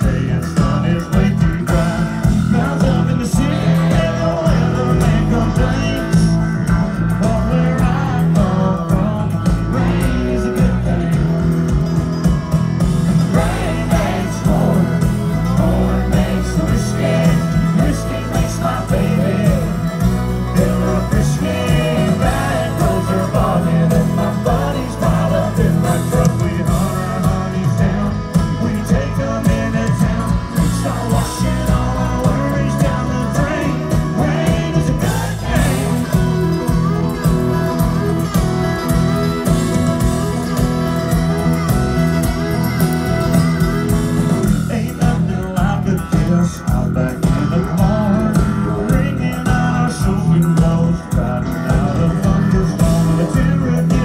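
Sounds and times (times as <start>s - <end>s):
man singing: 0.0s - 11.9s, 13.2s - 37.2s, 44.4s - 54.0s
live country band playing: 0.0s - 54.0s.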